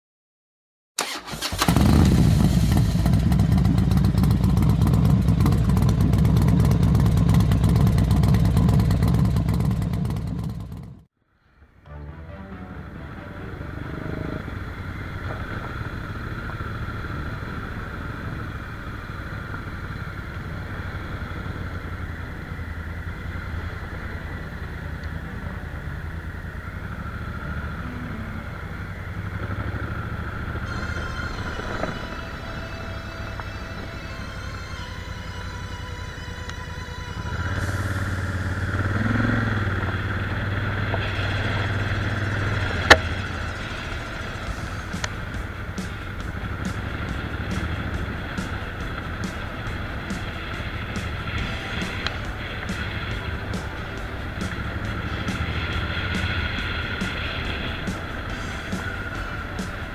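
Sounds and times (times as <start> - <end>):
motorcycle engine running: 1.0 - 11.2, 12.1 - 59.9.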